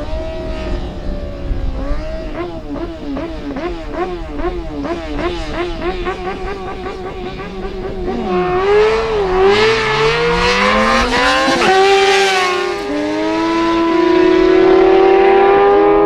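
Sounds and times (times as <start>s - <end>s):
racing motorcycles accelerating: 0.0s - 16.0s.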